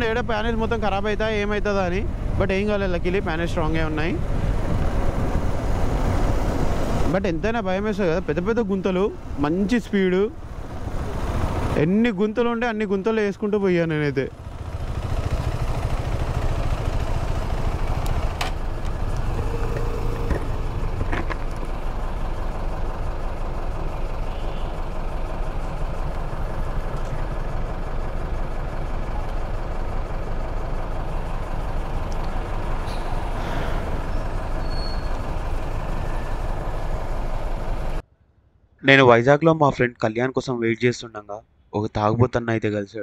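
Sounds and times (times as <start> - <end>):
wind and motorcycle road rumble: 0.0 - 38.0.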